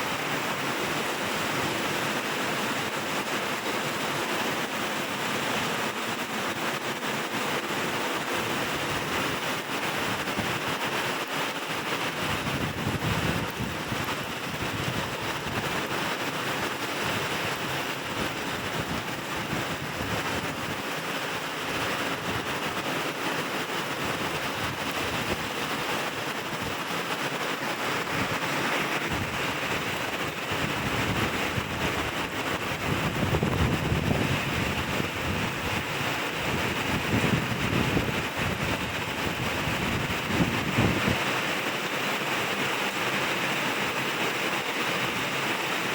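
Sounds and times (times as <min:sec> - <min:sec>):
heavy rain falling: 0:00.0 - 0:45.9
wind gusts on microphone: 0:00.0 - 0:45.9.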